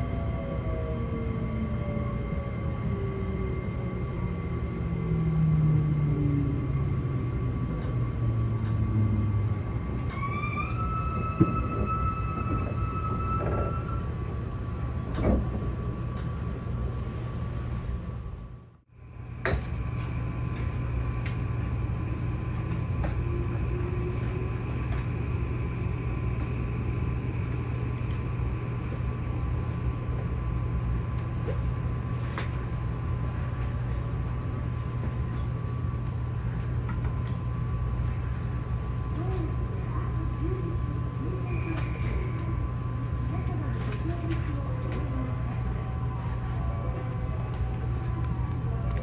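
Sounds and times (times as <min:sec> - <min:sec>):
constant whine: 0:00.0 - 0:49.0
train low rumble: 0:00.0 - 0:49.0.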